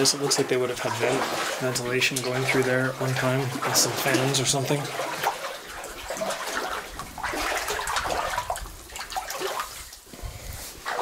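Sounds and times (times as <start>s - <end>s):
boots splashing through shallow water: 0.0s - 11.0s.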